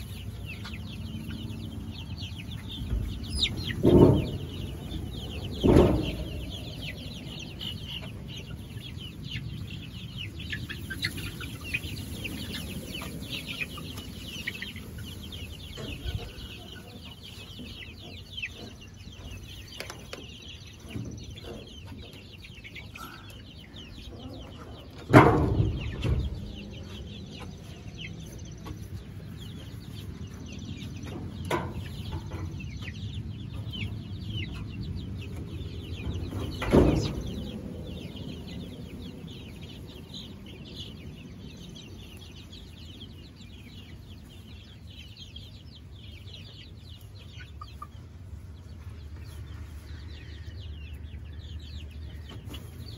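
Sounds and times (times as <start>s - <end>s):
chicks peeping: 0.0s - 52.9s.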